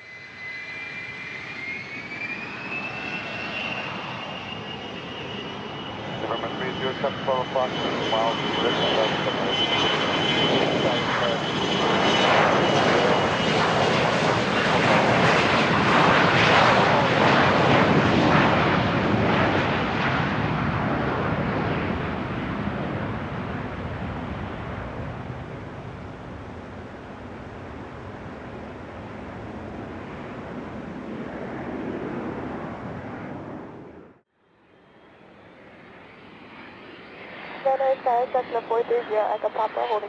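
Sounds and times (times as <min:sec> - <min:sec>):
jet engine rush: 0:00.0 - 0:34.2, 0:34.9 - 0:40.0.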